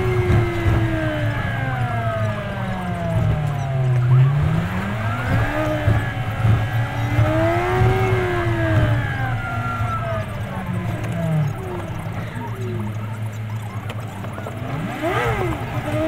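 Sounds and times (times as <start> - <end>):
sped up vehicle engine: 0.0 - 16.0.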